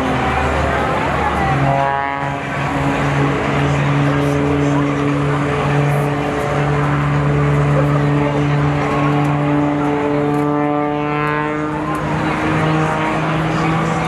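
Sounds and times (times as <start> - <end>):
engine passing by: 0.0 - 14.0
loud engine drone: 0.0 - 14.0.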